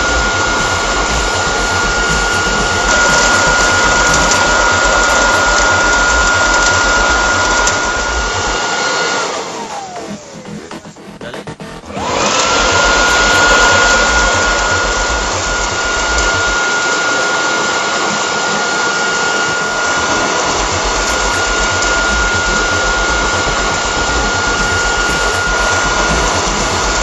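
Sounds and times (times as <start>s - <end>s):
loud rush of air: 0.0s - 10.4s, 12.0s - 27.0s
garden blower motor whine: 0.0s - 27.0s.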